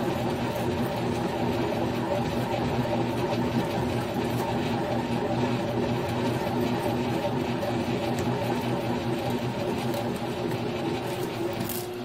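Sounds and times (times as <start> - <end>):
cutter milling aluminum: 0.0 - 12.0
milling machine motor humming: 0.0 - 12.0.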